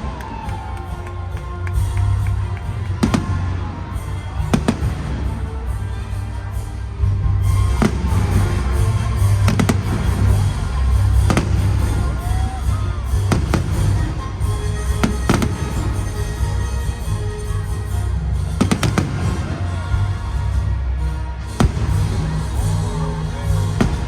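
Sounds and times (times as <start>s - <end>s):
fireworks bangs: 0.0s - 6.1s, 7.4s - 17.6s, 18.5s - 19.9s, 21.5s - 24.0s
bass-heavy music over loudspeakers: 0.0s - 24.0s.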